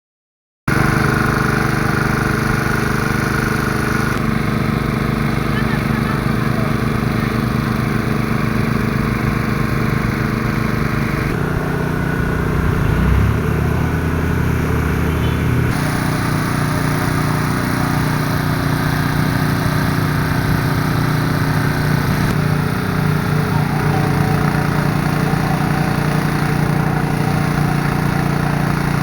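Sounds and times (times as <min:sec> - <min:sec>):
heavy machine engine running: 0:00.7 - 0:29.0.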